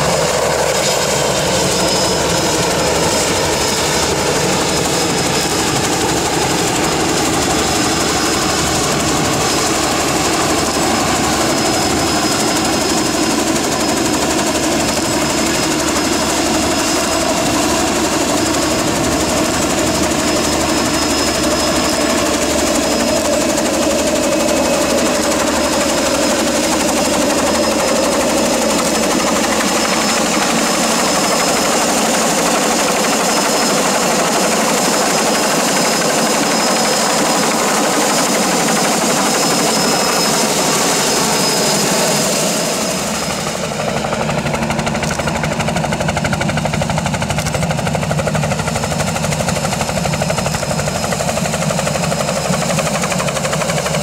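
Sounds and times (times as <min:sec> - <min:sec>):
helicopter rotor blade chop: 0:00.0 - 0:54.0
high turbine whine: 0:00.0 - 0:54.0.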